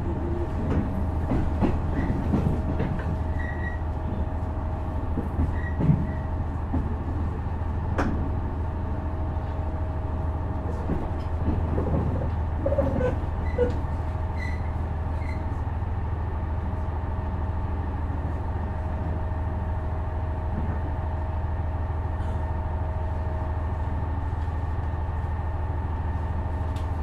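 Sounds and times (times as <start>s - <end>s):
diesel engine low hum: 0.0s - 27.0s.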